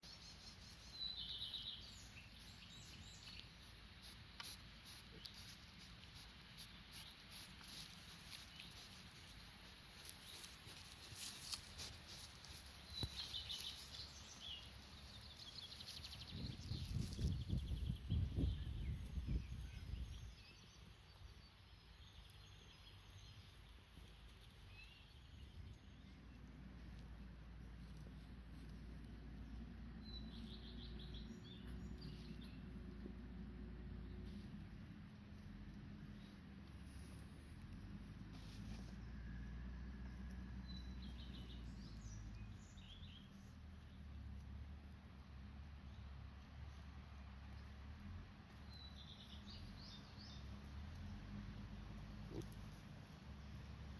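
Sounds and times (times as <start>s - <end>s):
low background rumble: 0.1s - 53.9s.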